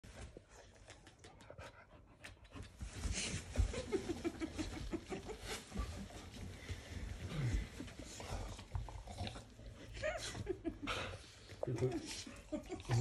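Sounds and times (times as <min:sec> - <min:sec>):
dog panting: 0:00.5 - 0:12.6.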